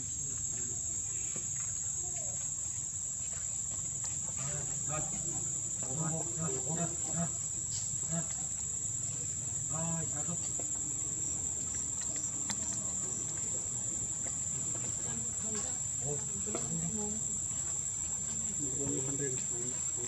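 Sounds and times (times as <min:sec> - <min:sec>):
crickets chirping: 0:00.0 - 0:20.0
faint voices: 0:00.0 - 0:20.0.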